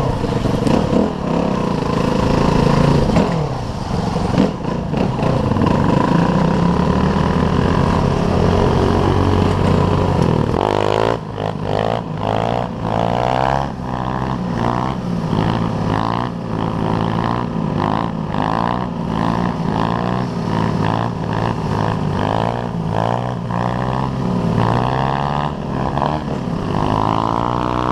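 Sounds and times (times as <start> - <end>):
pit bike engine revving: 0.0 - 27.9.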